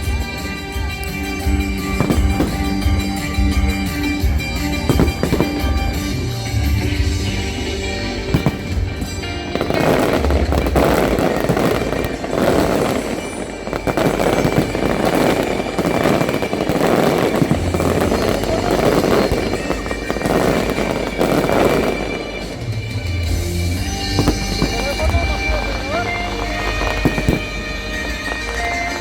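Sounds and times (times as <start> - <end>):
fireworks banging and crackling: 0.0 - 29.0
music playing: 0.0 - 29.0.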